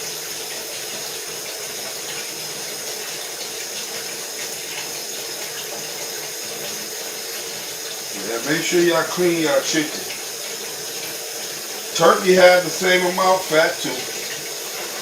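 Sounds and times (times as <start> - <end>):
tap running into sink: 0.0 - 15.0.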